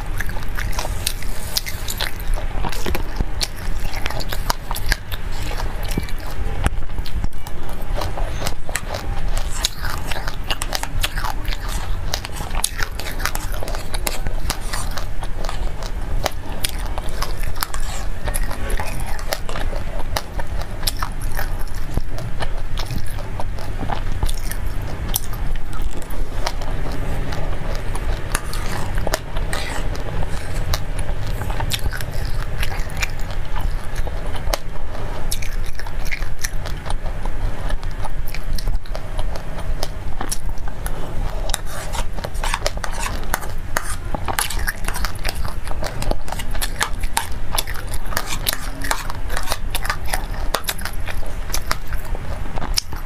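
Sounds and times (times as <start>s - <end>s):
seeds crunching while chewing: 0.0s - 53.0s
steady low hum: 0.0s - 53.0s
wet mouth sounds: 0.0s - 53.0s.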